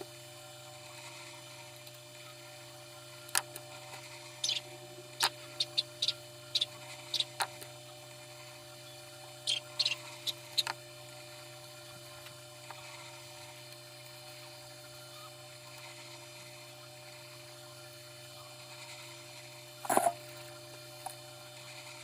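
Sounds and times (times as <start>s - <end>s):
electric fan motor hum: 0.0s - 22.0s.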